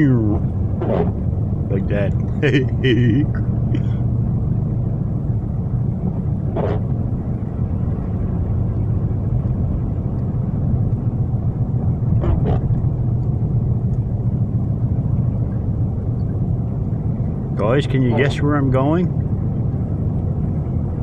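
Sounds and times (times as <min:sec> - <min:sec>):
car interior driving rumble: 0:00.0 - 0:21.0.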